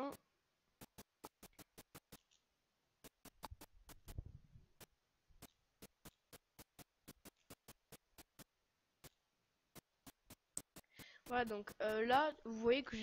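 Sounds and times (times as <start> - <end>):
rapid sharp clicks: 0.1 - 12.4.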